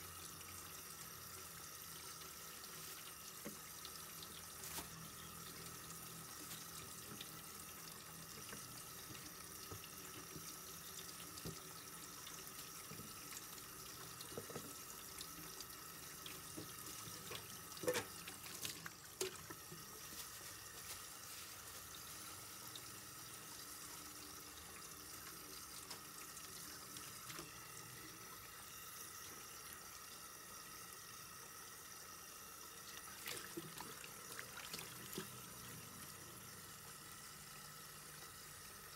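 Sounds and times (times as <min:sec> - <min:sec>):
tap water running into sink: 0:00.0 - 0:38.9.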